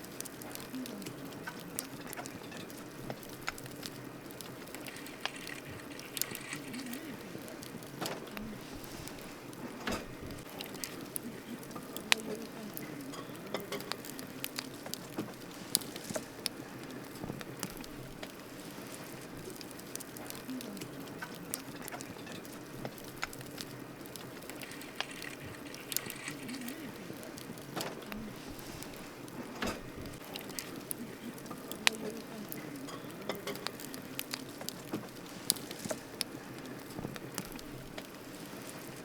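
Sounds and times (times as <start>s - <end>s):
campfire crackling and popping: 0.0s - 39.0s.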